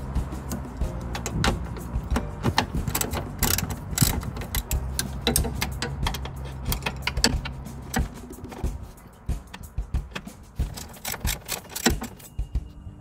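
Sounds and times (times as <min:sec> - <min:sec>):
ratchet wrench clicking: 0:00.5 - 0:12.4.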